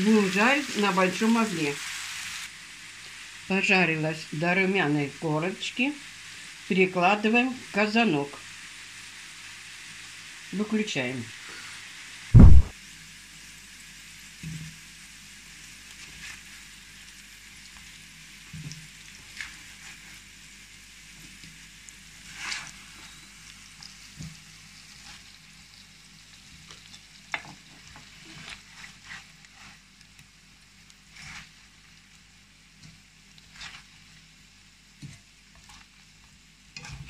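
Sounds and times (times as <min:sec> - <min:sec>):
potatoes sizzling in hot oil: 0:00.0 - 0:37.0.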